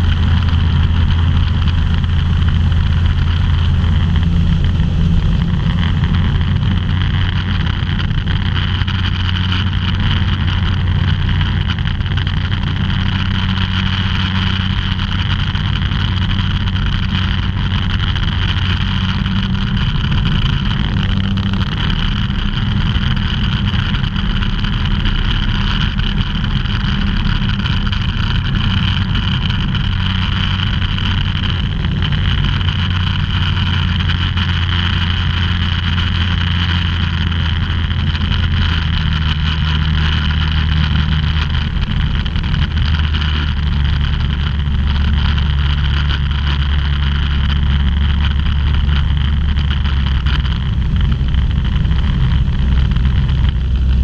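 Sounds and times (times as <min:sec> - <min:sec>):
rushing air: 0:00.0 - 0:54.0.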